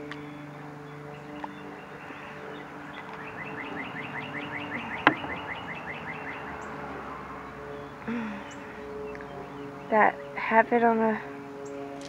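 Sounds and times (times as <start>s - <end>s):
bird chirping rapidly: 0.2s - 10.4s.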